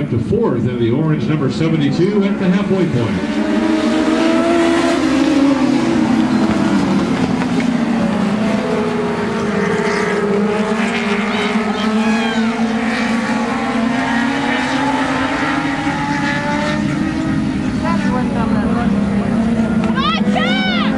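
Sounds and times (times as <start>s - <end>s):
race car engines passing: 0.0s - 20.9s.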